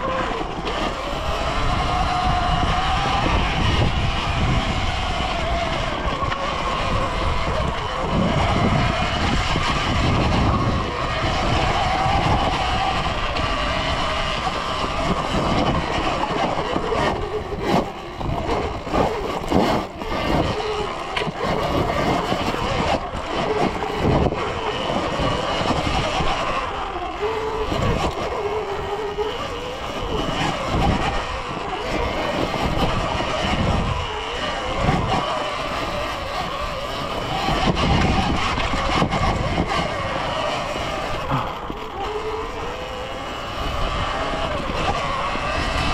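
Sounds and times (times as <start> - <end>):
electric motor whine: 0.0 - 45.9
rumble of dirt bike ride: 0.0 - 45.9.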